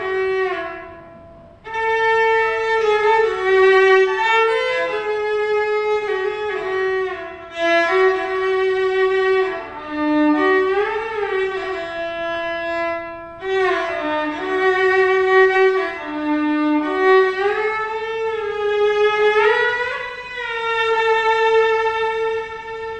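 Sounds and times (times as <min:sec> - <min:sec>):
solo violin melody: 0:00.0 - 0:22.9.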